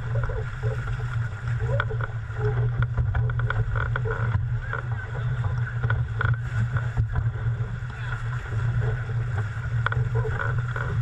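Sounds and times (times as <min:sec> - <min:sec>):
water rushing along hull: 0:00.0 - 0:11.0
water slapping and splashing: 0:00.0 - 0:11.0
wind rumbling on microphone: 0:00.0 - 0:11.0.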